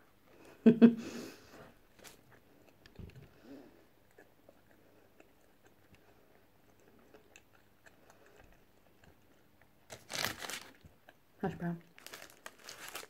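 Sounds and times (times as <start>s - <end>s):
person chewing: 1.7s - 11.3s, 11.9s - 13.0s.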